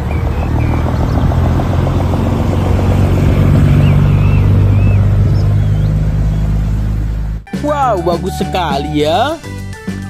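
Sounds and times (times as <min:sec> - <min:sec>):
trucks driving past: 0:00.0 - 0:10.0.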